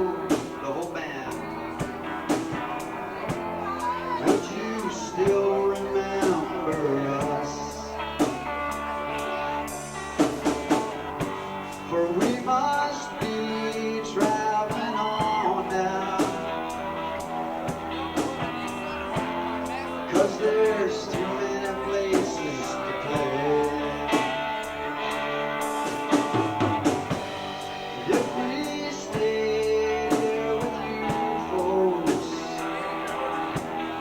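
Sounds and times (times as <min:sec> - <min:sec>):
drums and cymbals: 0:00.0 - 0:34.0
electric guitar gliding notes: 0:00.0 - 0:34.0.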